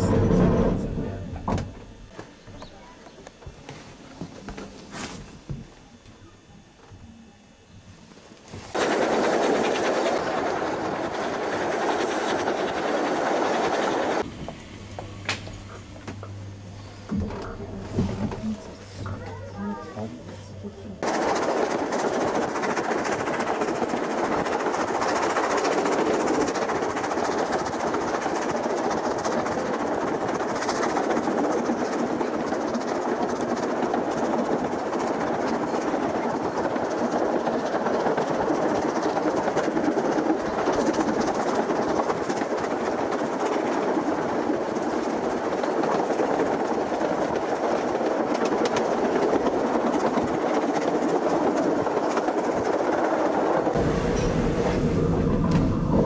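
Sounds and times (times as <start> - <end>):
train wheels rumbling on rails: 0.0 - 3.2, 8.7 - 16.2, 21.0 - 56.0.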